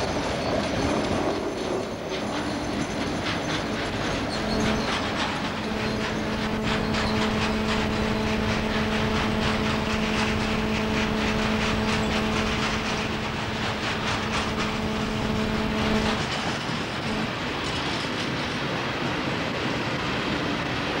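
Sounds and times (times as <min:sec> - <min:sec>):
diesel locomotive engine humming: 0:00.0 - 0:21.0
train wheels clacking on rails: 0:00.0 - 0:21.0.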